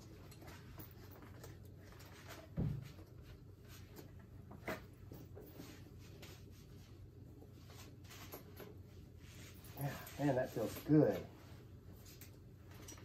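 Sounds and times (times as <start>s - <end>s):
harness webbing rustling and clicking: 0.0s - 13.0s.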